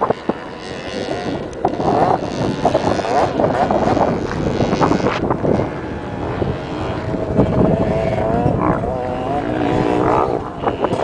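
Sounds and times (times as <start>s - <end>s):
dirt bike engine revving: 0.0s - 11.0s
wind rumble: 0.0s - 11.0s.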